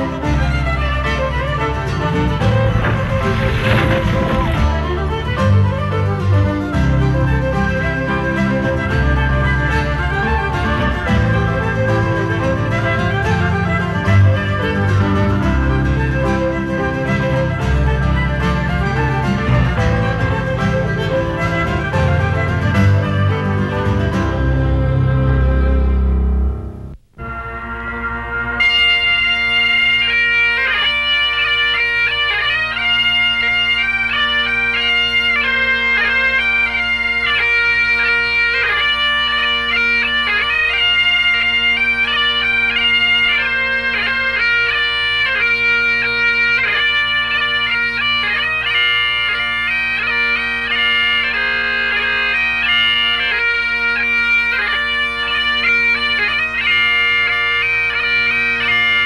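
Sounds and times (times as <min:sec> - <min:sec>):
bagpipes playing a tune: 0:00.0 - 0:59.0.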